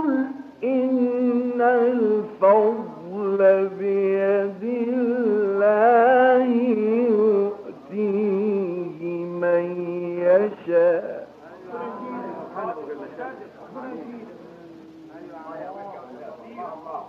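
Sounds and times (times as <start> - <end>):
man chanting recitation: 0.0 - 17.0.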